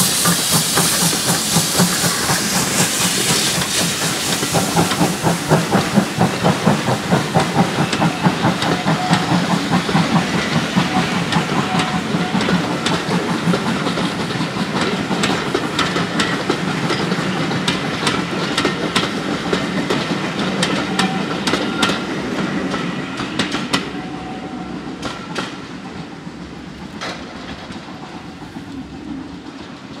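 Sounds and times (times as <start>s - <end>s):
train wheels clicking over rail joints: 0.0s - 24.1s, 24.7s - 30.0s
train rumble: 0.0s - 30.0s.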